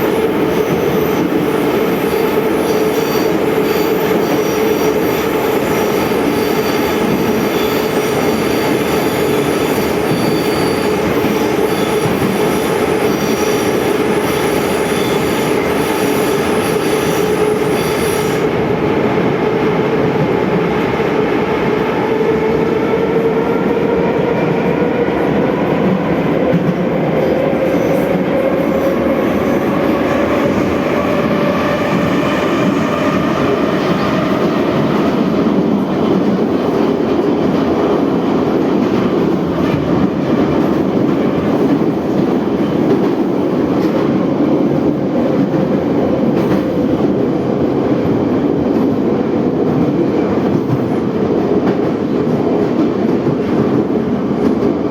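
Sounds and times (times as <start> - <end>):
train wheel and rail noise: 0.0 - 54.9.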